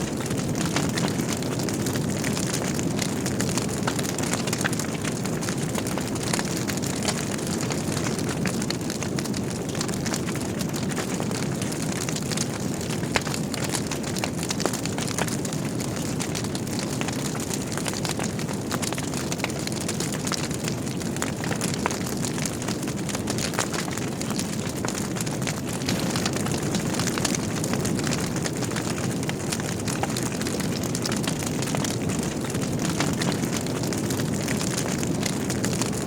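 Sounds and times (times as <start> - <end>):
fire burning: 0.0 - 36.0
wood crackling and popping: 0.0 - 36.0.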